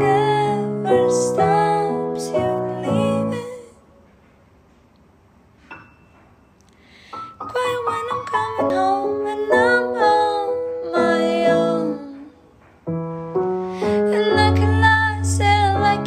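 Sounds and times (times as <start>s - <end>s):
song with piano chords: 0.0s - 4.7s, 5.6s - 16.0s.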